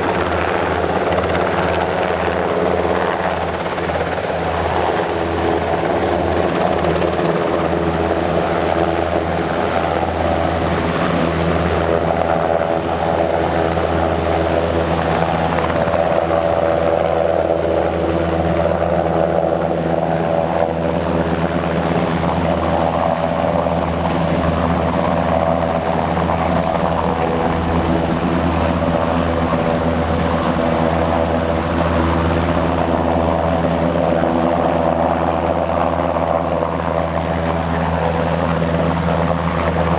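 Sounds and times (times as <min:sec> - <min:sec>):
helicopter rotors beating: 0:00.0 - 0:39.9
turbine whine: 0:00.0 - 0:39.9.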